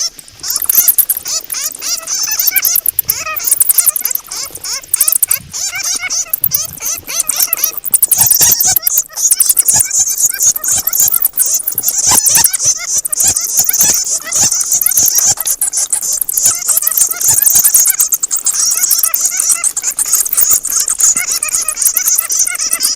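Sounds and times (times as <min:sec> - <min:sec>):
bats squeaking and chattering: 0:00.0 - 0:22.9
sharp clicks: 0:00.0 - 0:22.9.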